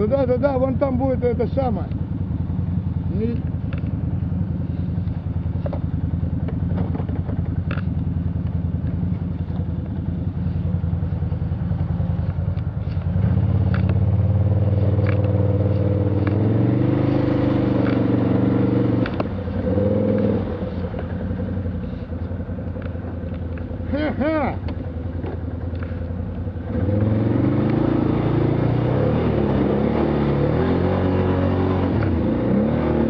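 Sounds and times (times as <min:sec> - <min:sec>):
vehicle engine revving: 0:00.0 - 0:33.0.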